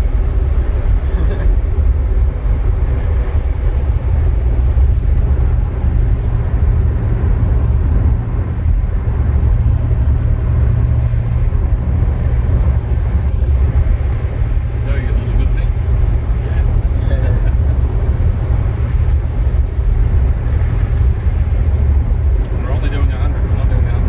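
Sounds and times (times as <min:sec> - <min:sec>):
car engine droning: 0:00.0 - 0:24.0
road and drivetrain noise: 0:00.0 - 0:24.0.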